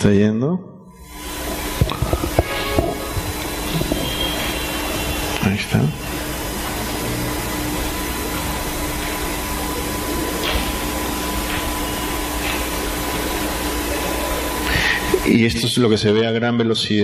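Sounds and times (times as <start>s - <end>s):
faint hum: 0.0s - 17.0s
steady hiss: 1.1s - 15.5s.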